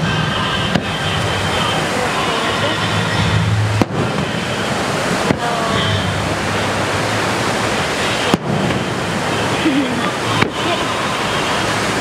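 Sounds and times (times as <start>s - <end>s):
sharp firework bangs: 0.0s - 1.8s, 2.9s - 11.2s
steady rushing noise: 0.0s - 12.0s.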